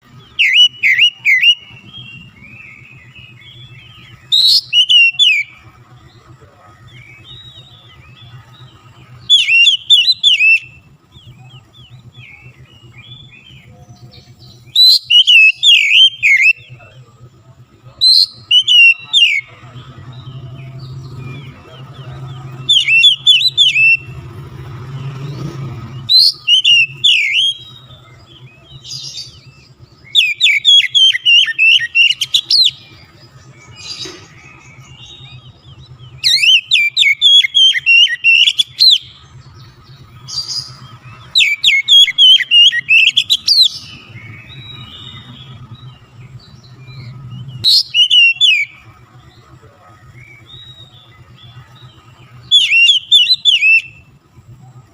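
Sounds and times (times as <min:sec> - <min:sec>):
bird twittering and whistling: 0:00.0 - 0:54.9.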